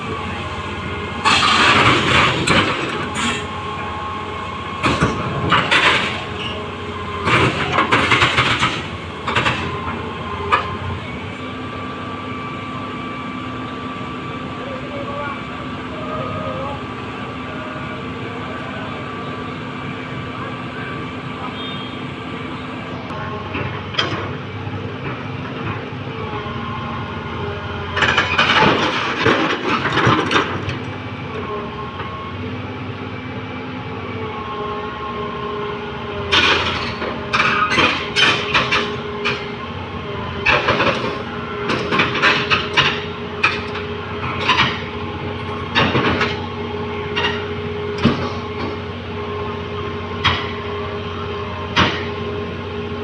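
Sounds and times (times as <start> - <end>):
steel tracks clanking and squealing: 0.0 - 24.4, 25.1 - 32.5, 34.1 - 53.0
diesel engine running: 0.0 - 53.0.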